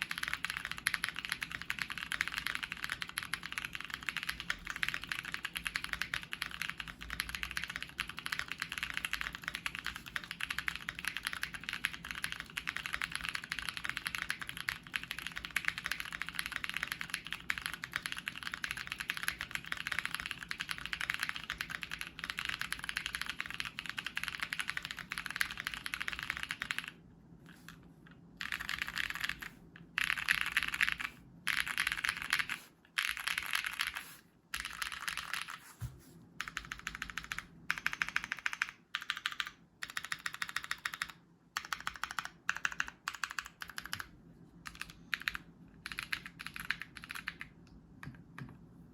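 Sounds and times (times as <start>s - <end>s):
mechanical keyboard typing: 0.0s - 27.8s, 28.4s - 35.6s, 36.4s - 48.5s.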